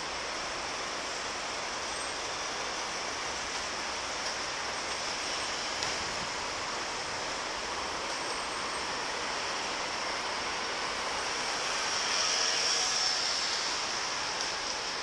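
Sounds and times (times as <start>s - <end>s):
heavy road traffic: 0.0s - 15.0s.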